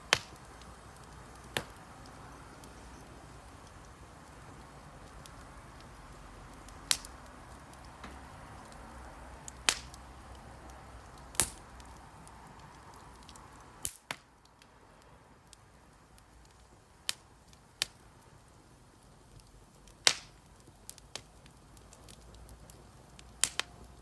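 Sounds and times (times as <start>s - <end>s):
campfire crackling pops: 0.0s - 24.0s
campfire hiss: 0.0s - 24.0s.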